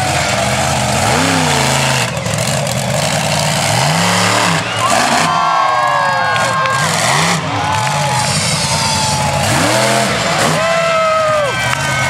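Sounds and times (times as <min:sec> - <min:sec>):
crowd cheering: 0:00.0 - 0:12.0
truck engine revving: 0:00.0 - 0:12.0.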